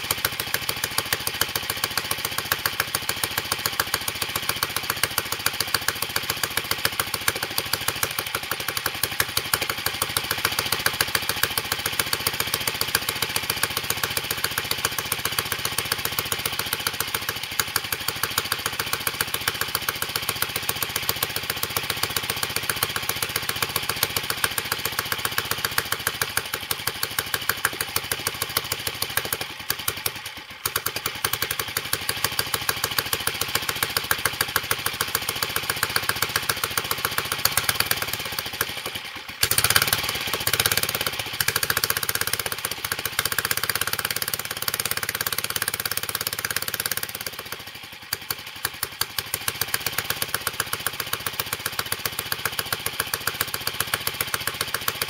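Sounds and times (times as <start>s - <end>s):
small stationary engine running: 0.0s - 55.0s.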